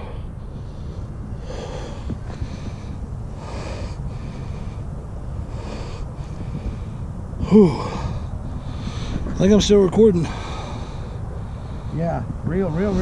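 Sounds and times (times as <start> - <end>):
person breathing heavily: 0.0 - 9.4, 10.1 - 13.0
wind rumble on microphone: 0.0 - 13.0.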